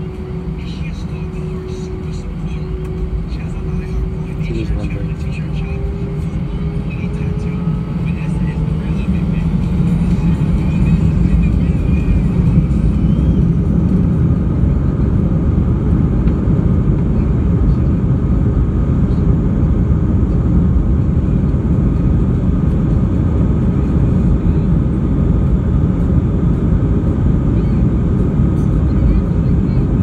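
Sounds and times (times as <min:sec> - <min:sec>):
jet engine rumble inside cabin: 0:00.0 - 0:30.0.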